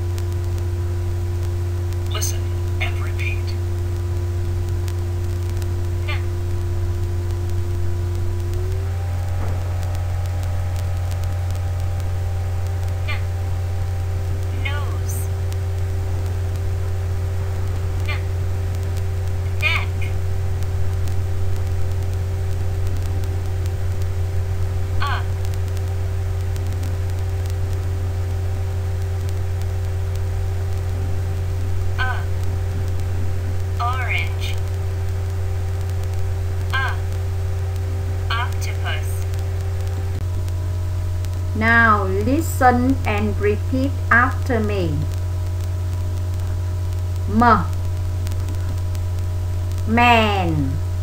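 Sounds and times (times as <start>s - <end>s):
electrical hum: 0.0s - 51.0s
faint steady tones: 0.0s - 51.0s
recording hiss: 0.0s - 51.0s.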